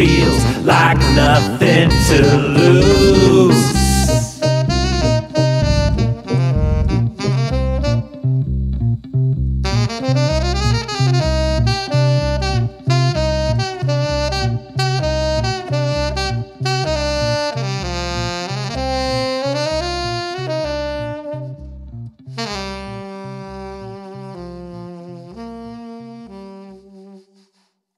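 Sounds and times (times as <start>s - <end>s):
saxophone melody: 0.0s - 8.5s, 9.6s - 27.4s
band backing with bass: 0.0s - 23.0s.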